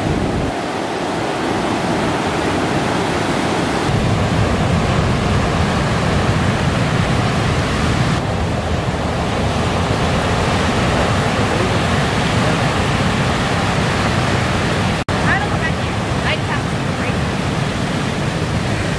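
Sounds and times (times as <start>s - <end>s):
ocean surf roaring: 0.0s - 18.9s.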